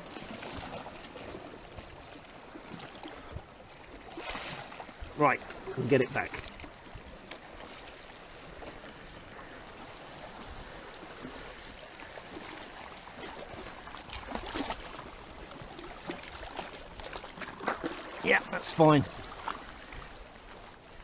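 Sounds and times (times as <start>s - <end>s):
sea water washing over rocks: 0.0s - 21.0s.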